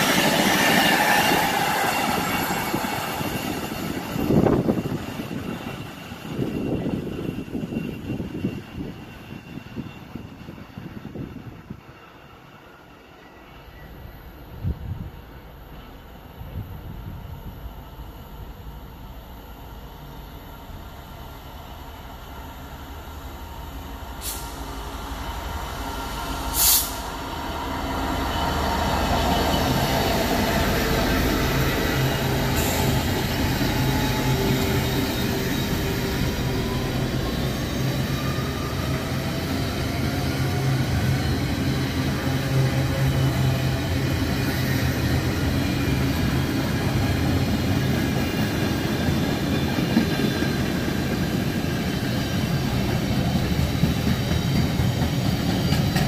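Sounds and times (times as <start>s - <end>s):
train rumbling past: 0.0s - 56.0s.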